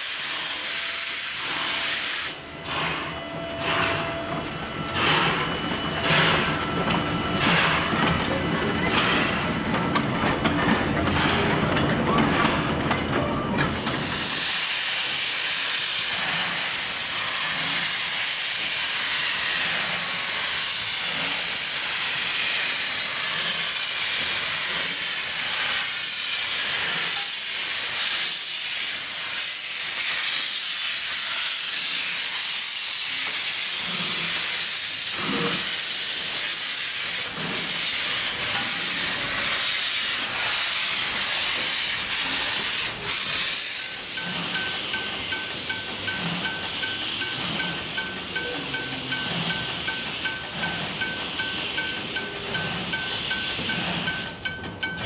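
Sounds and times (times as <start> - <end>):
steam venting hiss: 0.0 - 10.0, 13.7 - 54.9
moving train rumble: 0.0 - 55.0.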